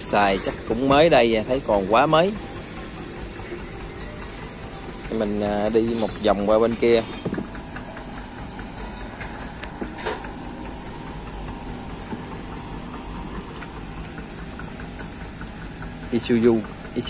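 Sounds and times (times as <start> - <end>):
engine idling hum: 0.0 - 17.0.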